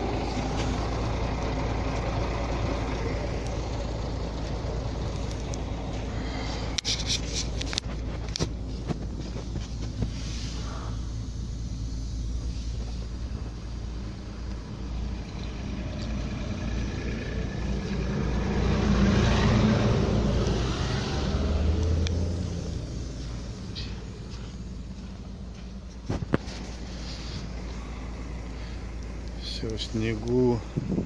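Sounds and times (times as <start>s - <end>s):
diesel truck engine humming: 0.0s - 31.0s.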